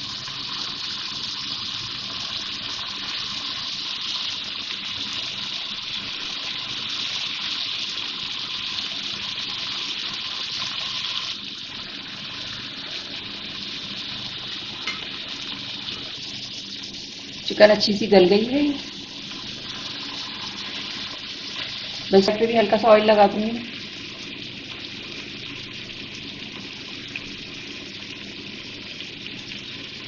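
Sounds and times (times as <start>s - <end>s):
chicken sizzling in oil: 0.0s - 30.0s.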